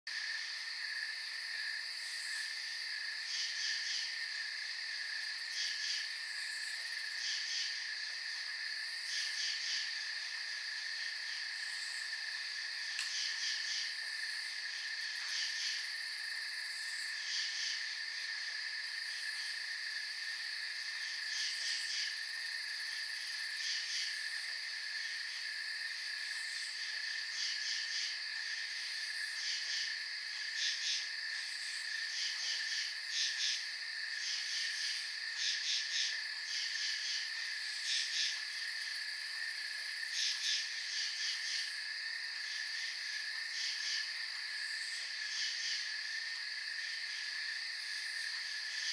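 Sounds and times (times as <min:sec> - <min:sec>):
crickets chirping: 0:00.1 - 0:48.9
steady high insect trill: 0:00.1 - 0:48.9.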